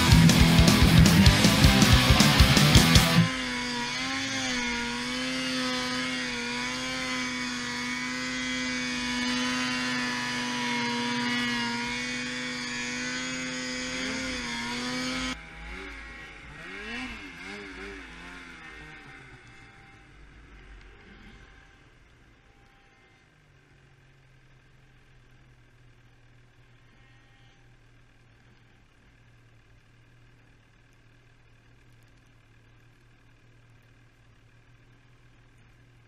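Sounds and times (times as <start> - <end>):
snowmobile engine revving: 0.0 - 30.3.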